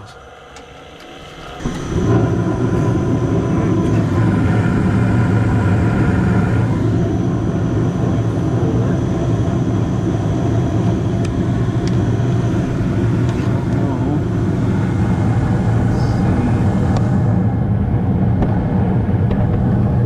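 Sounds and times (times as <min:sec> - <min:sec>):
faint whine: 0:00.0 - 0:20.0
furnace motor droning: 0:00.0 - 0:20.0.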